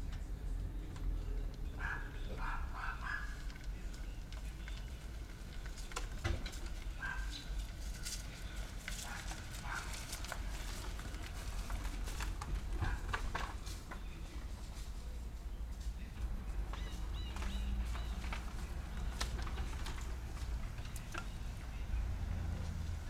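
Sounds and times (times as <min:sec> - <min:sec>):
tyres crackling over leaves and grit: 0:00.3 - 0:23.0.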